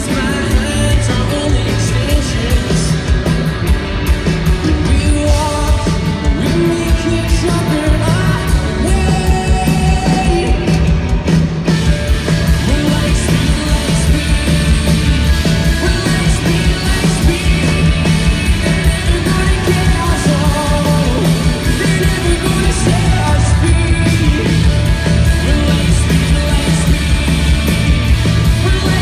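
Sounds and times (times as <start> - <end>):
person singing: 0.0 - 3.2, 4.6 - 11.2, 12.5 - 29.0
bass guitar: 0.0 - 29.0
drums: 0.0 - 29.0
electric guitars: 0.0 - 29.0.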